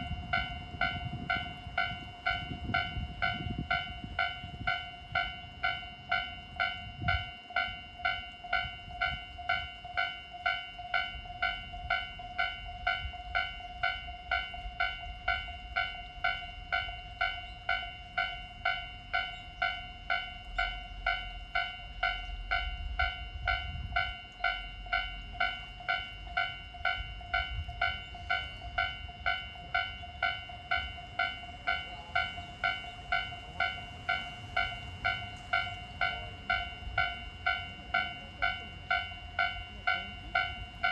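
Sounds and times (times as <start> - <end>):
level-crossing electronic bell: 0.0 - 40.9.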